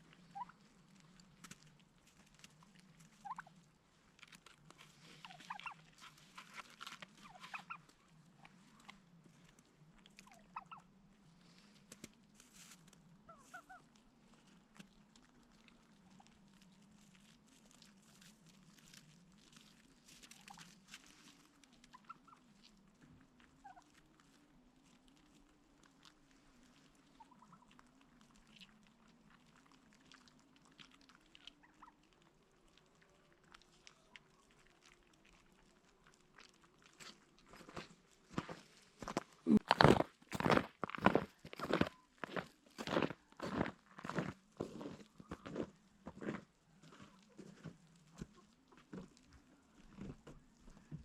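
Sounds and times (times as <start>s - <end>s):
poultry peeping and chirping: 0.2s - 9.2s, 10.0s - 11.0s, 12.2s - 37.9s, 39.8s - 45.8s, 46.7s - 51.0s.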